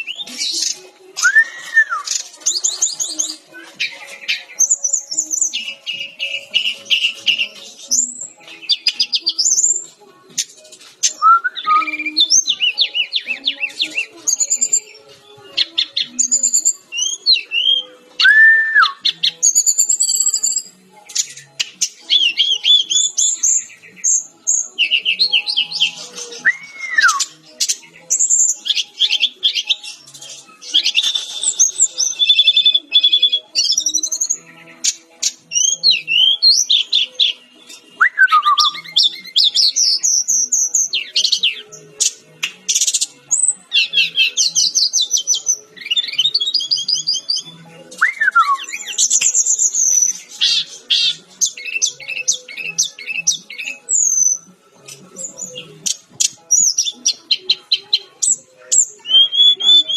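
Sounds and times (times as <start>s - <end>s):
bird singing chirps and trills: 0.0s - 59.9s.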